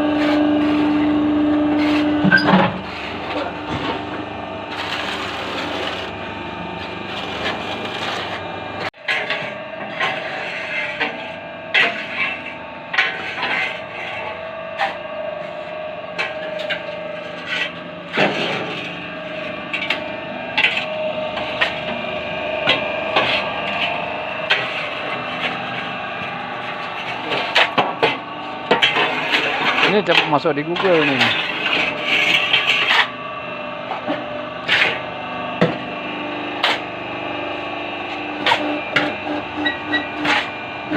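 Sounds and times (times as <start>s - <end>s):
machine motor hum: 0.0s - 40.9s.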